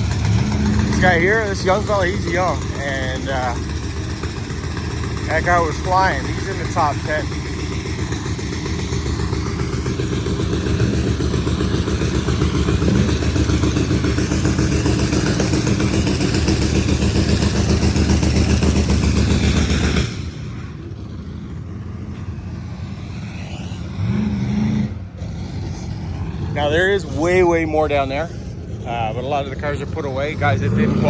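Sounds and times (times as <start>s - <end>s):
background engine noise: 0.0s - 31.0s
race car engine rumbling: 0.0s - 31.0s.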